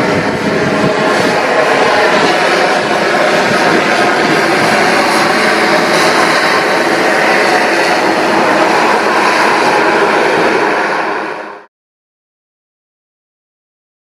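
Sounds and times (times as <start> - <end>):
turboprop engines whining: 0.0 - 11.7.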